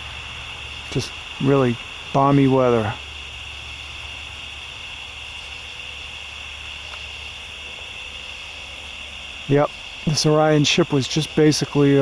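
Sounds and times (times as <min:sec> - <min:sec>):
low steady hum: 0:00.0 - 0:12.0
night insects trilling: 0:00.0 - 0:12.0.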